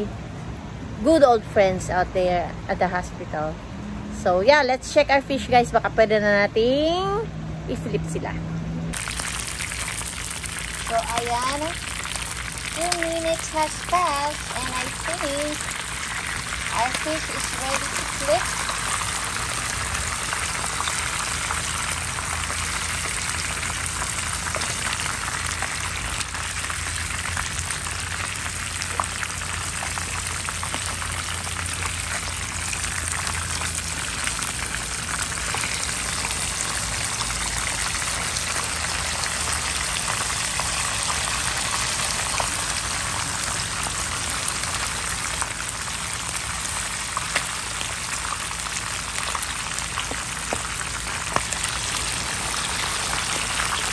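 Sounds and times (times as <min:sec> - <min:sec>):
fish sizzling in hot oil: 0:08.9 - 0:53.9
oil crackling and popping: 0:08.9 - 0:53.9.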